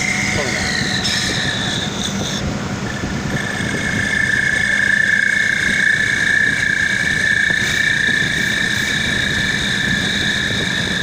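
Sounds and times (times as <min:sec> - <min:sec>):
wood lathe whining: 0:00.0 - 0:11.0.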